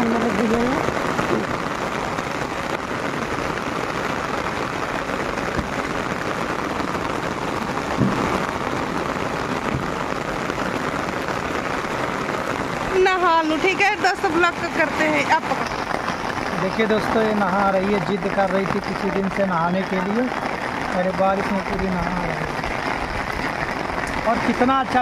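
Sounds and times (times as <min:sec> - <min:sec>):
heavy rain on concrete roof: 0:00.0 - 0:25.0.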